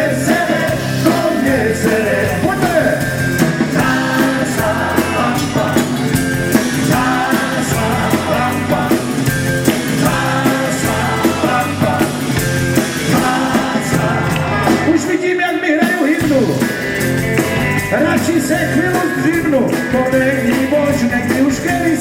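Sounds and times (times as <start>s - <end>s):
person singing: 0.0s - 16.6s, 17.9s - 22.0s
rock and roll band playing live: 0.0s - 22.0s.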